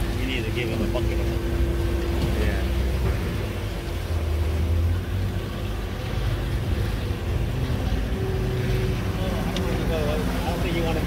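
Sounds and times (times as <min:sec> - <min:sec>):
boat engine humming: 0:00.0 - 0:11.0
water sloshing against hull: 0:00.0 - 0:11.0.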